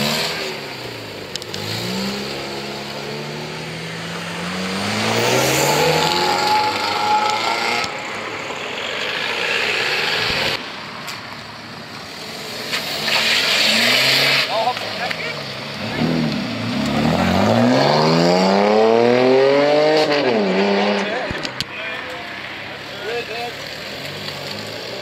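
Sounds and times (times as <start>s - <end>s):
car engine accelerating: 0.0s - 10.6s, 12.0s - 21.6s.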